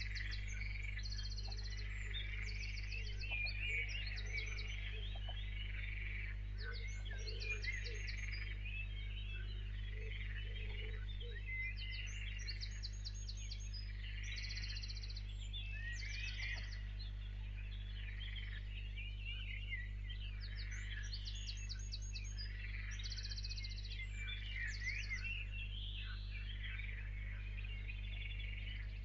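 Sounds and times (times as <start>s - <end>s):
birds chirping and trilling: 0.0s - 29.0s
steady low hum: 0.0s - 29.0s.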